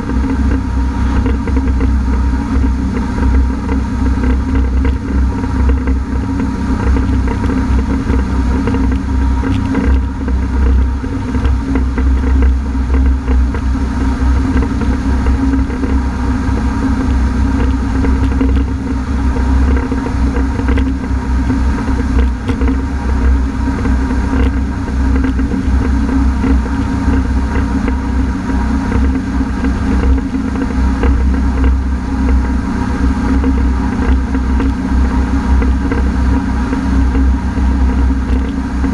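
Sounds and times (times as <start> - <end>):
watercraft engine drone: 0.0 - 38.9.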